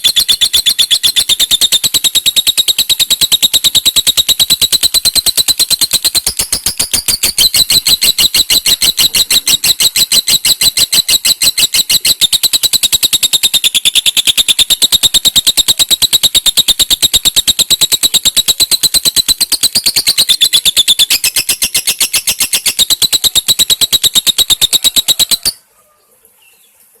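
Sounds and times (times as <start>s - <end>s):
lovebird fast high-pitched chirps: 0.0s - 25.6s.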